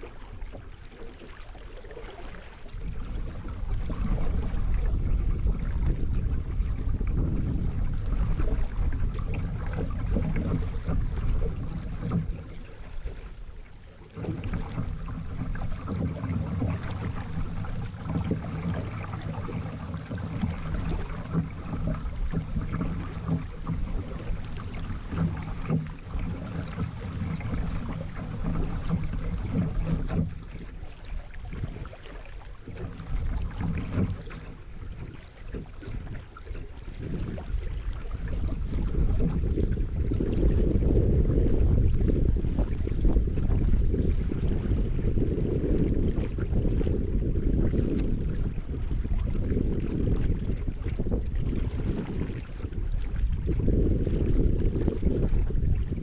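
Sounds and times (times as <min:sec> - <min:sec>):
paddle splashing: 0:00.0 - 0:56.0.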